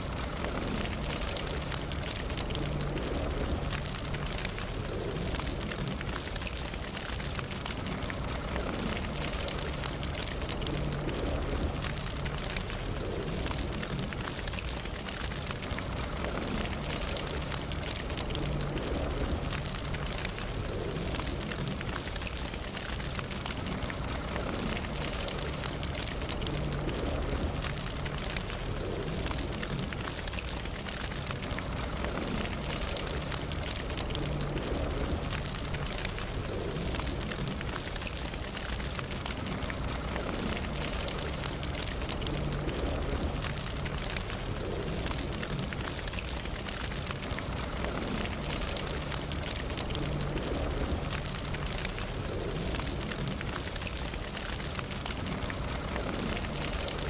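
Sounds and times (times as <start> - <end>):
campfire crackling and hissing: 0.0 - 57.0.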